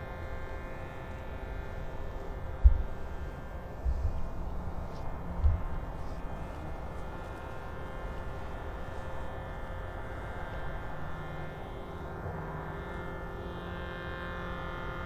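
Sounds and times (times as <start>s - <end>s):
shruti box droning: 0.0s - 15.0s.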